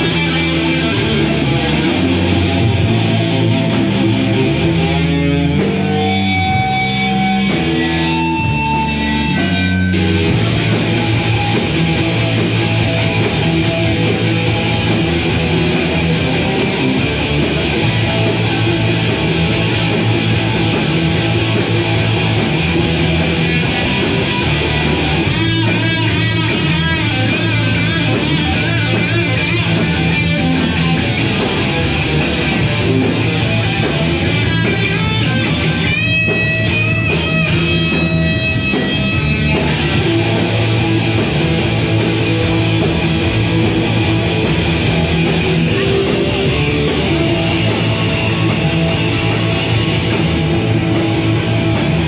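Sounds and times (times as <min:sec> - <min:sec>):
guitar-led rock music: 0:00.0 - 0:52.0.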